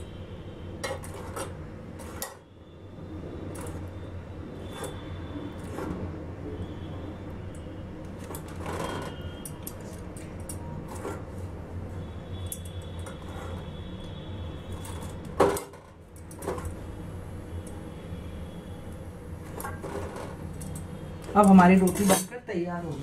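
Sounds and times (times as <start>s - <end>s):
gas burner flame rumble: 0.0s - 22.2s.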